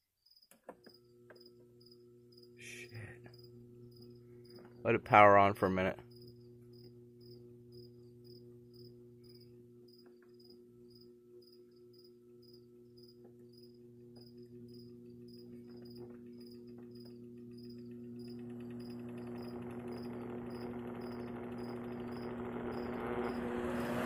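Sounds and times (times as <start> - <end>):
fan motor humming: 0.9 - 24.0.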